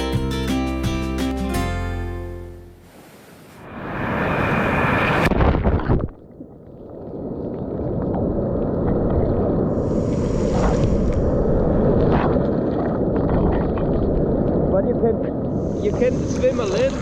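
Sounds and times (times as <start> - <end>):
sea wash: 2.8 - 17.0.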